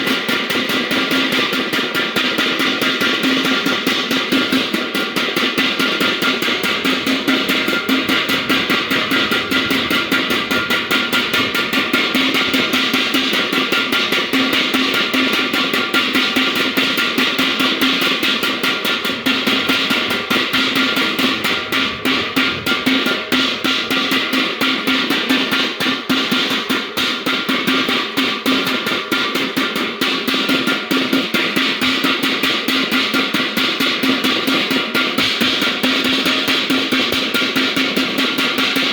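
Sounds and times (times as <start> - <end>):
drum beat: 0.0 - 38.9.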